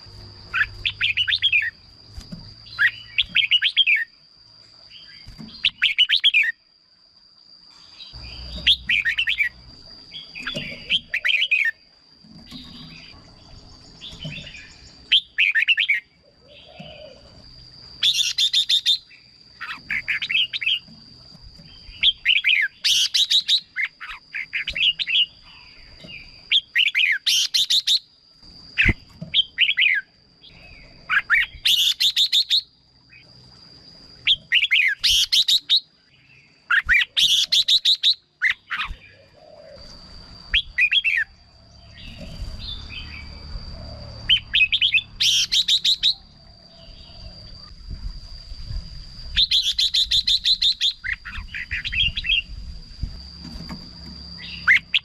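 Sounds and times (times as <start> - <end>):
bird singing: 0.0 - 6.7, 7.4 - 48.0, 48.9 - 55.0.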